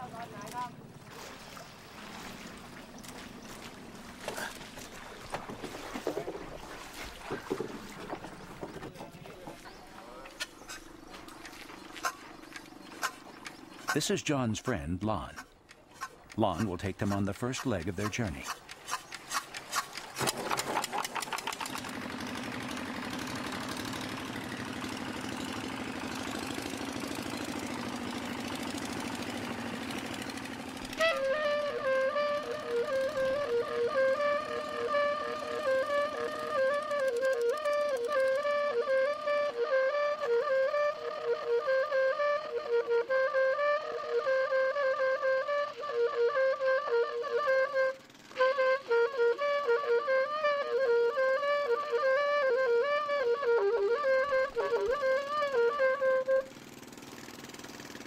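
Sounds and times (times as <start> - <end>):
distant boat engine running: 0.0 - 58.0.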